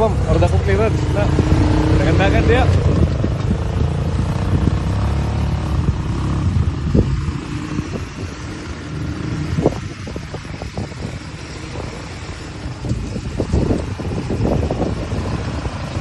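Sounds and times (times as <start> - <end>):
atv engine rumbling: 0.0 - 16.0.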